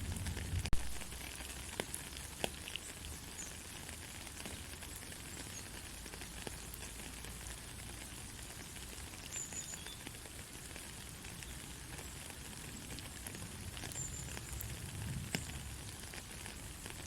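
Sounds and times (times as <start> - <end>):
raindrop ticks: 0.0 - 17.0
soft rain falling: 0.0 - 17.0.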